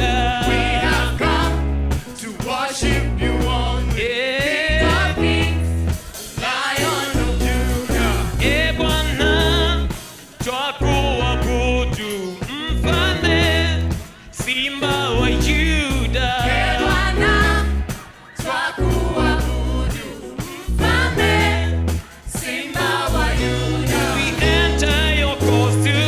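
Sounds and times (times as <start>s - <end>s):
band with steady bass: 0.0s - 26.0s
voices singing worship song: 0.0s - 26.0s.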